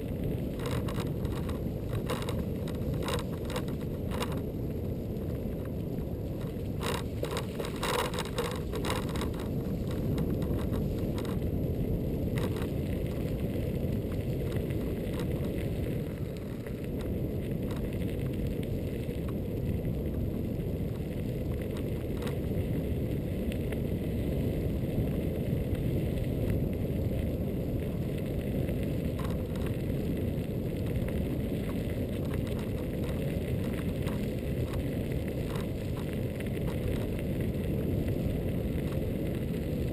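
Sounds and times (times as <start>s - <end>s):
tyres rolling on pavement: 0.0s - 39.9s
wind on microphone: 0.0s - 39.9s.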